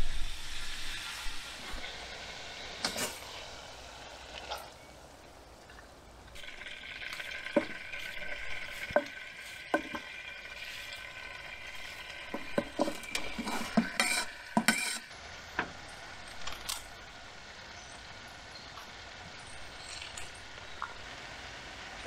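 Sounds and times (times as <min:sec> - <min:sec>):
sausages sizzling in a pan: 0:00.0 - 0:22.0.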